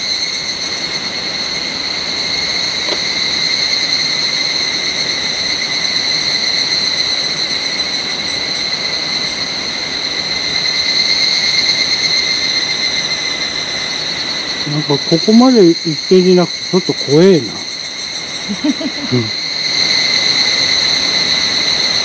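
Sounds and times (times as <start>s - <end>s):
cicadas droning: 0.0s - 22.0s.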